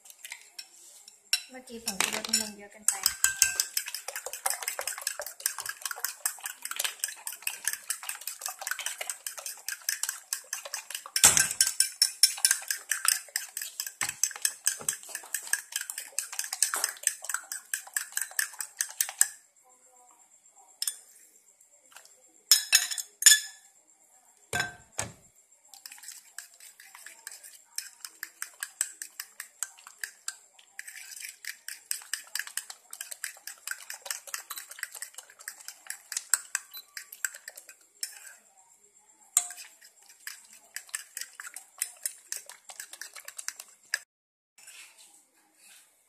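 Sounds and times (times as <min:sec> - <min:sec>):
spoon clinking against bowl: 0:01.3 - 0:19.4, 0:20.8 - 0:21.1, 0:22.5 - 0:23.6, 0:24.6 - 0:25.2, 0:25.9 - 0:38.4, 0:39.4 - 0:43.7.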